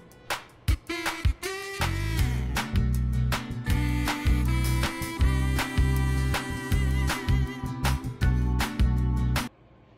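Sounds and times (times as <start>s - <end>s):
funk background music: 0.0s - 9.5s.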